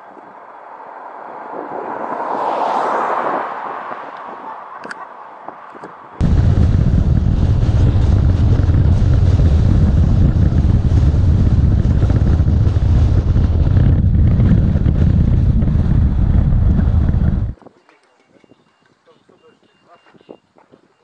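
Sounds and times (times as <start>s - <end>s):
car wind and road noise: 0.0s - 17.8s
wind buffeting microphone: 0.0s - 17.8s.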